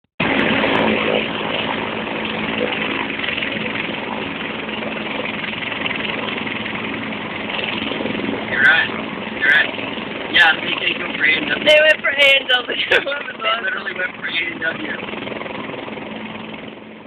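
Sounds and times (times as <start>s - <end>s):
helicopter rotor and turbine: 0.2s - 17.0s.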